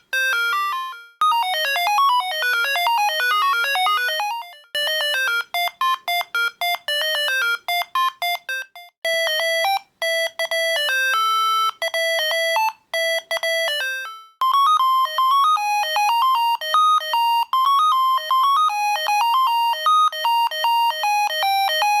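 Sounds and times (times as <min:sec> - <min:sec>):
phone ringtone beeping melodies: 0:00.0 - 0:22.0.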